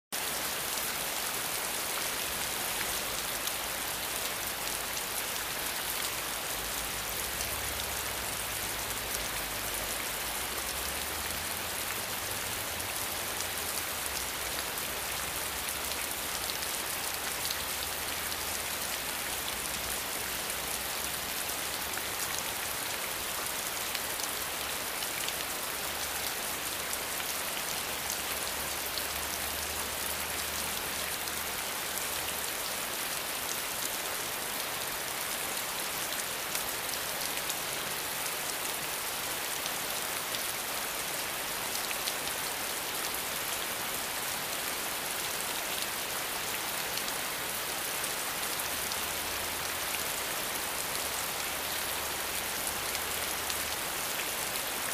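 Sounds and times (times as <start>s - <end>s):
rain falling on leaves: 0.1s - 54.9s.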